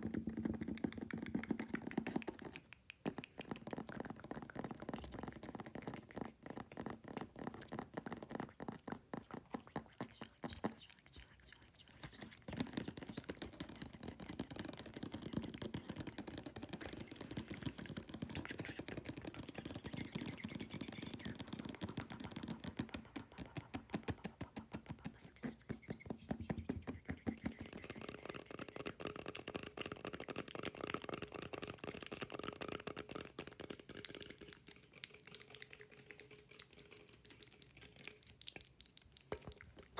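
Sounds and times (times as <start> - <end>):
fast fingernail tapping: 0.0 - 34.6
close-up mouth sounds: 0.0 - 39.9.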